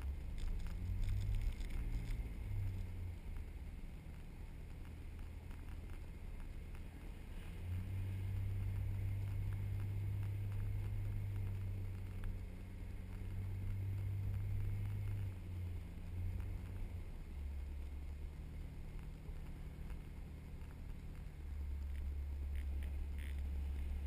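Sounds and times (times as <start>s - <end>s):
vehicle engine driving on sand: 0.0s - 24.0s.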